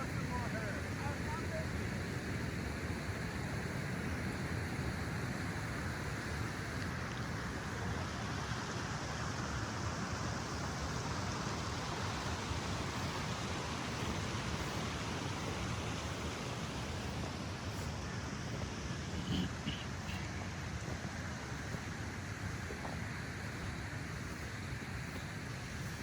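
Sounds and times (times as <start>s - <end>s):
rushing mountain stream: 0.0s - 26.0s.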